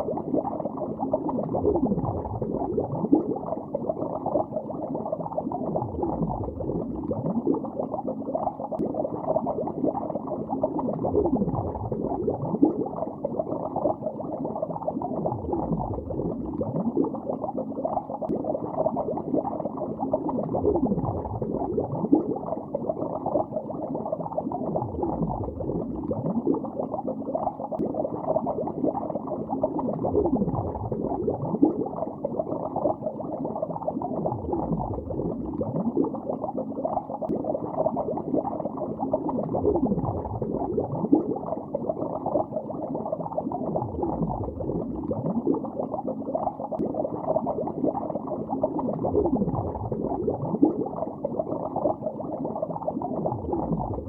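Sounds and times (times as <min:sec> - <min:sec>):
underwater bubbling: 0:00.0 - 0:54.0.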